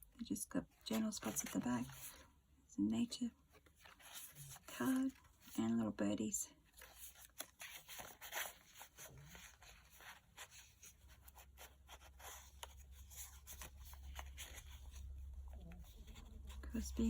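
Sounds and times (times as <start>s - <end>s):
paper cards scraping and rustling: 0.8s - 2.3s, 3.5s - 5.8s, 6.6s - 17.0s.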